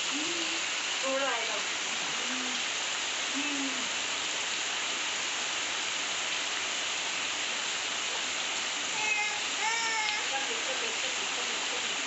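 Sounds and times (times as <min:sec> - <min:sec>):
steady rain on street: 0:00.0 - 0:12.0.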